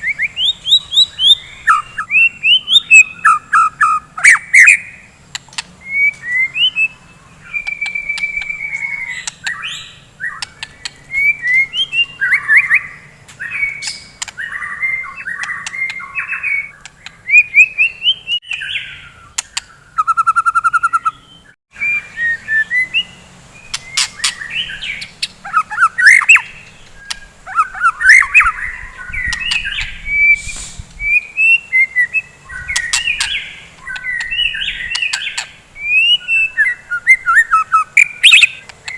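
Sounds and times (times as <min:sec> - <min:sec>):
bird singing whistled phrases: 0:00.0 - 0:05.0, 0:05.8 - 0:38.9.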